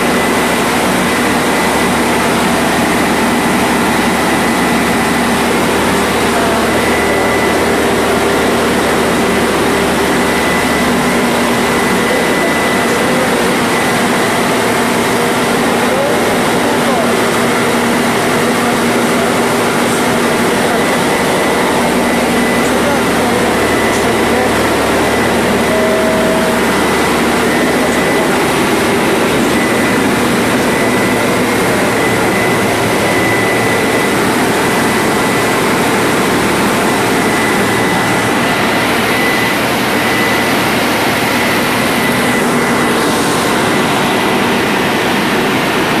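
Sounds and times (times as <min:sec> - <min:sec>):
diesel generator engine drone: 0:00.0 - 0:46.0
high whine: 0:00.0 - 0:46.0.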